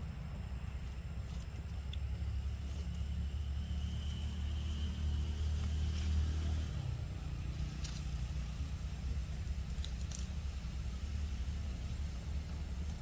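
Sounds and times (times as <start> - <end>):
faint engine hum: 0.0 - 13.0.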